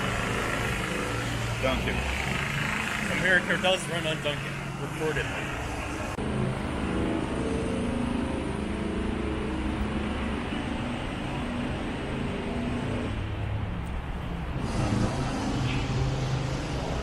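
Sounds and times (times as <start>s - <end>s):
passing cars rumbling: 0.0s - 17.0s.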